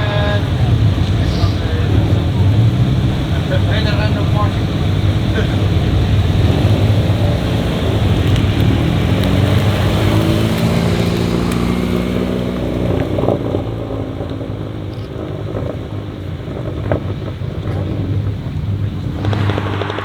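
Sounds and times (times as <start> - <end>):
car engine running through exhaust: 0.0 - 20.0
exhaust pops: 0.0 - 20.0.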